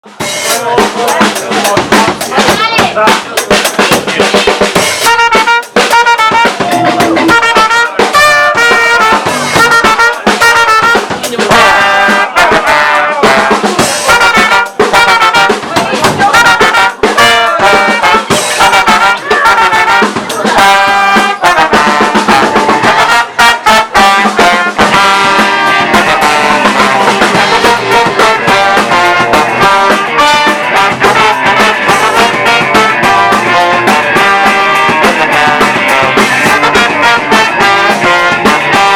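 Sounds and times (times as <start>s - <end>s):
band playing live: 0.0s - 38.9s
brass-like melody: 0.0s - 38.9s
steady drum beat: 0.0s - 38.9s.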